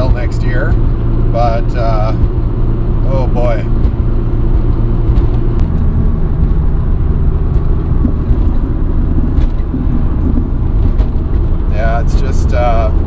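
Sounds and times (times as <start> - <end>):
car engine low rumble: 0.0 - 13.0
road noise: 0.0 - 13.0.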